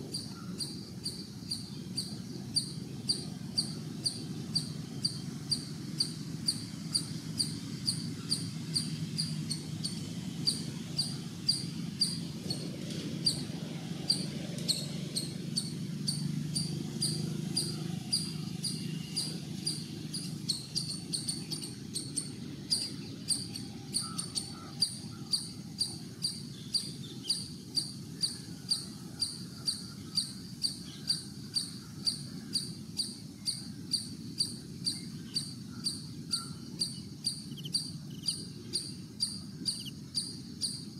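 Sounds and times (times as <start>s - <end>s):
cricket chirping: 0.0s - 40.9s
low background rumble: 0.0s - 40.9s.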